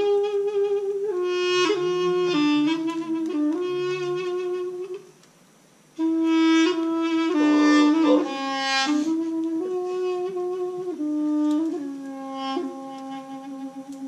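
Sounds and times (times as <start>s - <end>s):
hand-held wind instrument melody: 0.0s - 5.2s, 6.0s - 14.0s.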